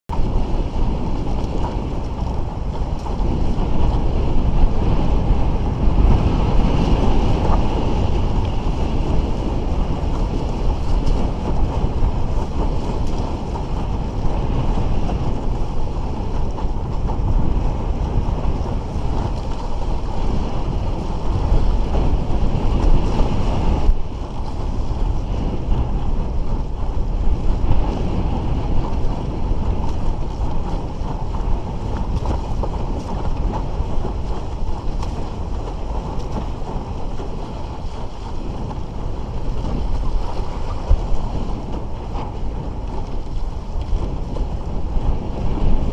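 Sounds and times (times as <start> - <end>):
wind noise on microphone: 0.0 - 45.9
water rushing and splashing: 0.1 - 45.9.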